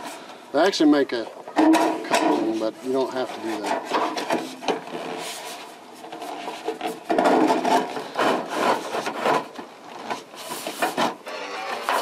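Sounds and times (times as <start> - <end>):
metal gutter scraping: 1.5 - 12.0.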